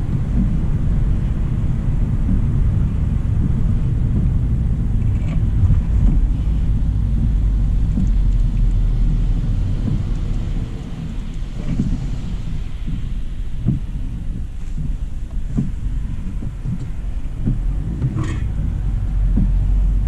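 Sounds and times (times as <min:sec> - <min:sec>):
rain: 0:00.0 - 0:20.0
tyre and road rumble: 0:00.0 - 0:20.0.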